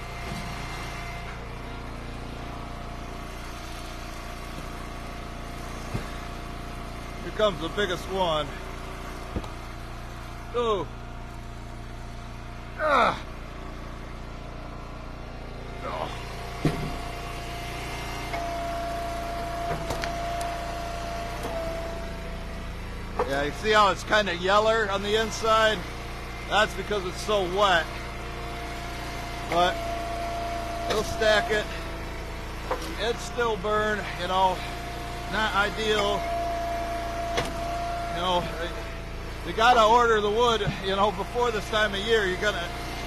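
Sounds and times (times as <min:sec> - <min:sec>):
wood splitter engine running: 0:00.0 - 0:43.0.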